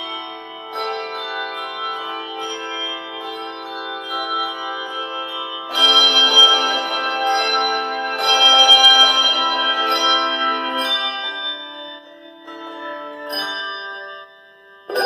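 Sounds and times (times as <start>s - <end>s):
handbell choir ringing chords: 0.0s - 15.0s.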